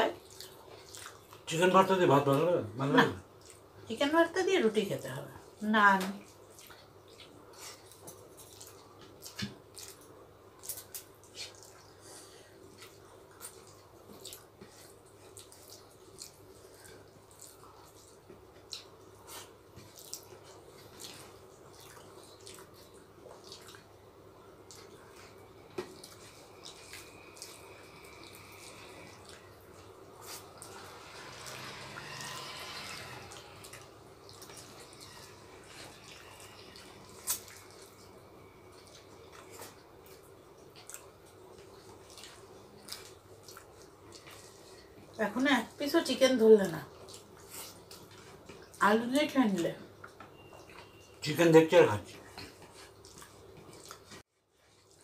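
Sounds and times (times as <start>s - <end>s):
faint steady hum: 0.0s - 55.0s
wet chewing and lip-smacking: 0.2s - 1.5s, 3.3s - 3.8s, 6.0s - 45.2s, 46.7s - 48.8s, 49.5s - 51.2s, 52.1s - 55.0s.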